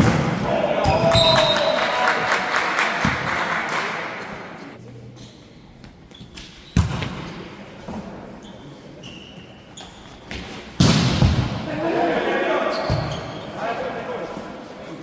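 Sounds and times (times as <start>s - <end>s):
volleyball thudding in indoor hall: 0.0s - 4.8s, 5.8s - 8.4s, 9.4s - 14.1s.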